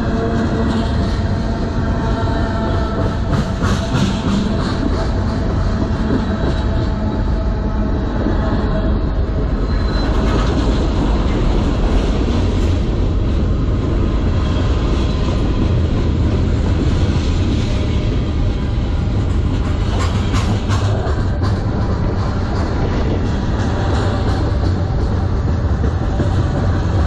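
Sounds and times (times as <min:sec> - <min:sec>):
steel wheels rumbling on rail: 0:00.0 - 0:27.0.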